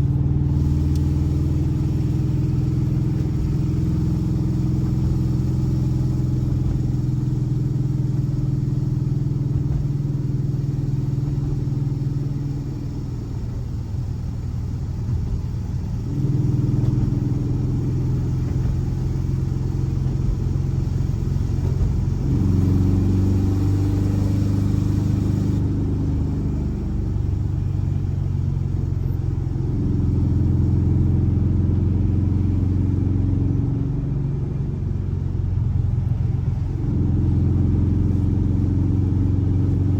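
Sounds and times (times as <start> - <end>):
air-cooled car engine running: 0.0 - 39.9.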